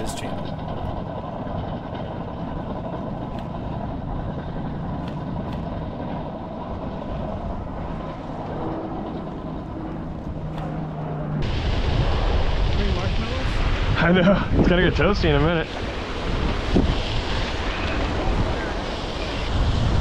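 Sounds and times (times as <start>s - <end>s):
road noise: 0.0s - 20.0s
vehicle engine rumble: 0.0s - 20.0s.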